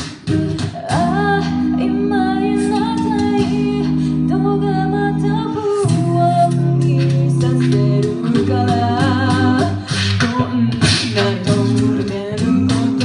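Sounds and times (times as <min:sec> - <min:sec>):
a cappella group singing: 0:00.0 - 0:13.0.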